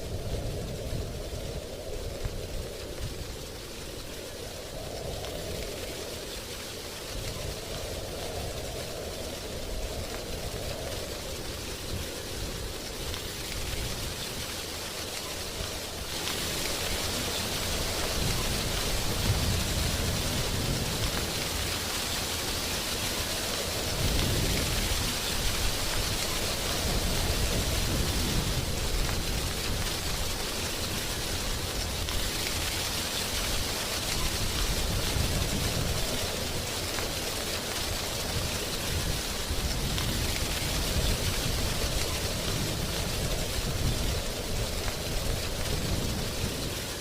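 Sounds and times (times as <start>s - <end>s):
wind rustling tree leaves: 0.0s - 47.0s.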